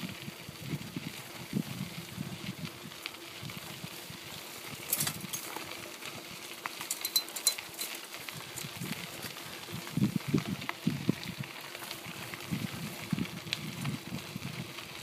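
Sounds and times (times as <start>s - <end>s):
bicycle tyres crunching on gravel: 0.0s - 15.0s
bike clicks and rattles: 0.6s - 15.0s.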